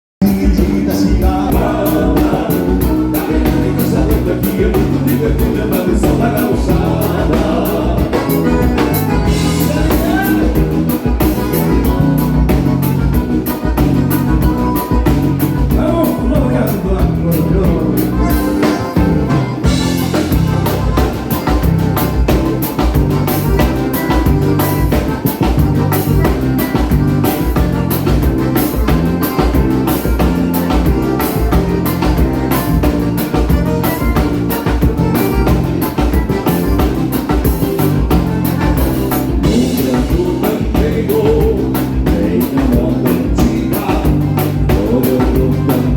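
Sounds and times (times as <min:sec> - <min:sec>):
drum kit beat: 0:00.2 - 0:45.9
live dance band playing: 0:00.2 - 0:45.9.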